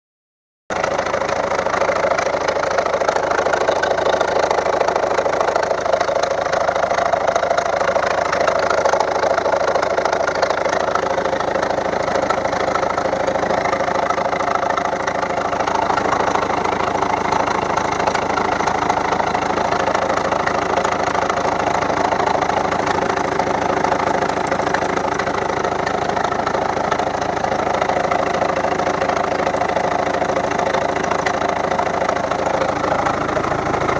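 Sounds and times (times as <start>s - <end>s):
diesel engine idling with knock: 0.7s - 33.9s.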